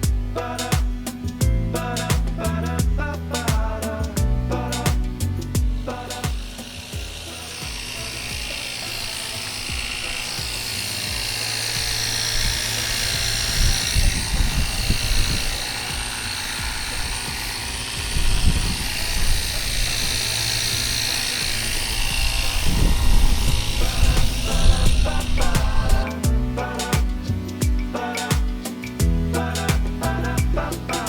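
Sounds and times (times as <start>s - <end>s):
background music: 0.0s - 31.0s
pressure washer spraying water: 0.0s - 31.0s.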